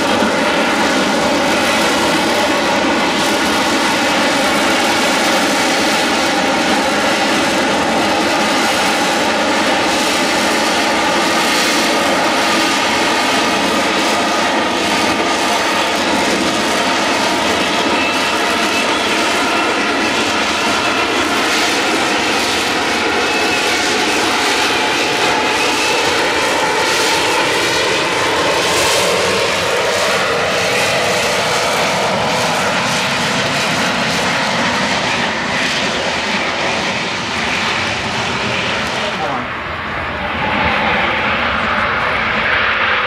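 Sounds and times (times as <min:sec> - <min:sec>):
jet engine roar with whine: 0:00.0 - 0:43.0.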